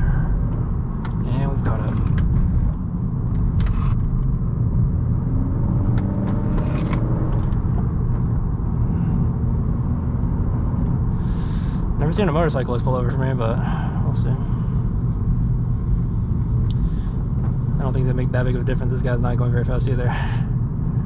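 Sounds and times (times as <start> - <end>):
car engine running: 0.0 - 21.0
tyres on road: 0.0 - 21.0.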